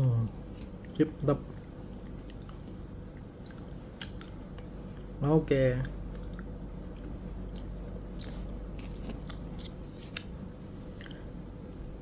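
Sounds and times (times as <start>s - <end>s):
low room hum: 0.0s - 12.0s
quiet chewing with mouth clicks: 0.3s - 5.2s, 5.8s - 11.4s.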